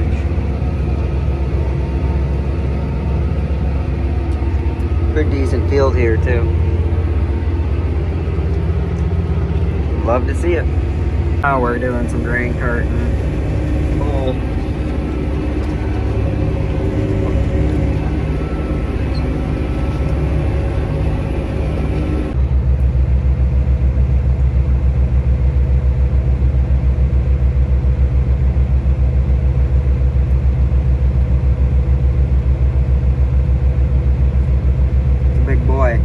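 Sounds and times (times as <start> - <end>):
harvest machinery droning: 0.0 - 36.0
tractor diesel engine running: 0.0 - 36.0.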